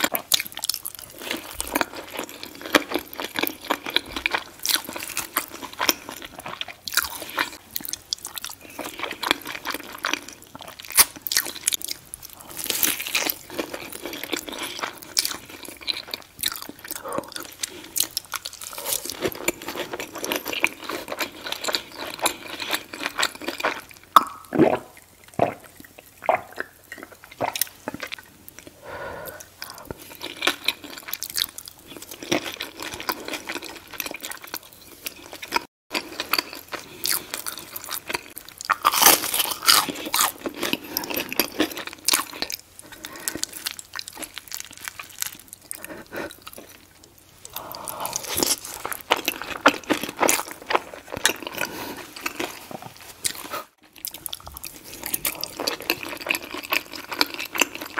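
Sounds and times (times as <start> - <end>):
crunching breaded crust: 0.0 - 24.0, 29.8 - 57.9
close chewing with wet mouth sounds: 0.0 - 28.8, 29.4 - 57.9.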